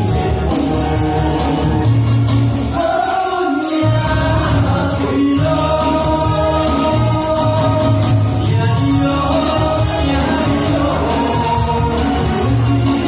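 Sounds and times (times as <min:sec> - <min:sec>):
karaoke backing track with bass: 0:00.0 - 0:13.0
man singing into microphone: 0:00.0 - 0:13.0.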